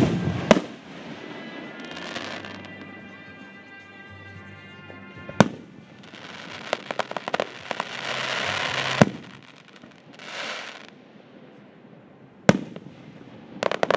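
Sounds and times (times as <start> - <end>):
firework bangs: 0.0 - 3.4, 4.8 - 11.5, 12.5 - 13.9
fireworks crackling: 0.0 - 11.7, 12.5 - 13.9.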